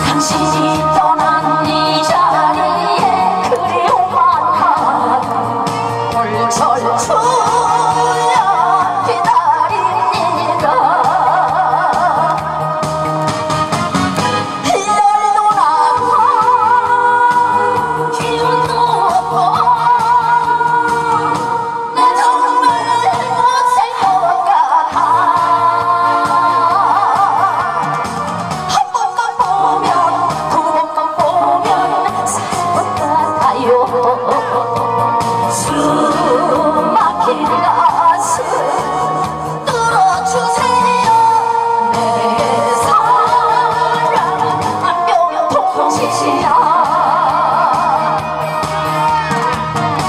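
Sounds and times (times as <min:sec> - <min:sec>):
woman singing: 0:00.0 - 0:13.0, 0:14.6 - 0:28.0, 0:28.6 - 0:48.4
instrumental accompaniment: 0:00.0 - 0:50.0
pulsing bass line: 0:00.0 - 0:50.0.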